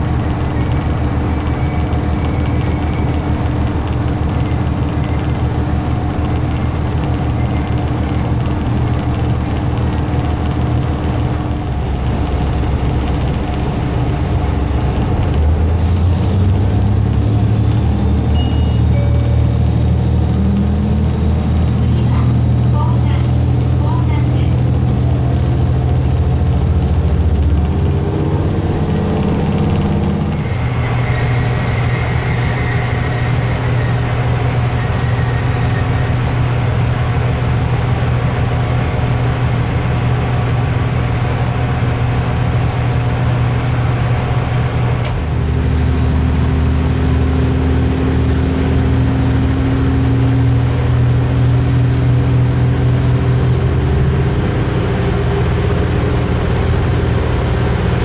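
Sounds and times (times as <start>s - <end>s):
diesel railcar engine drone: 0.0s - 58.0s
train rolling noise: 0.0s - 58.0s.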